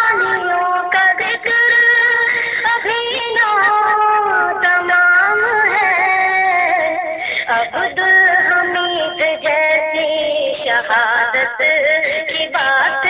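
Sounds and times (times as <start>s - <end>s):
person singing devotional song: 0.0s - 13.0s.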